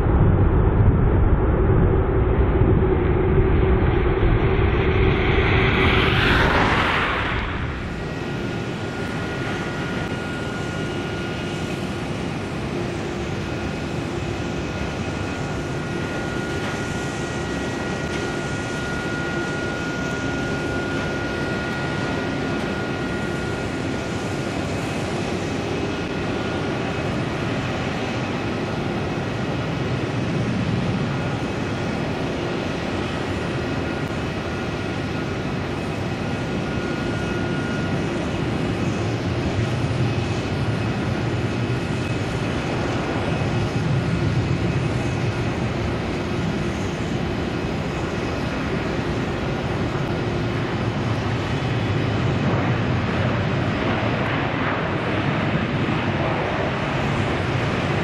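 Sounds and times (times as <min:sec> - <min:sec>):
jet engines roaring and whining: 0:00.0 - 0:58.0.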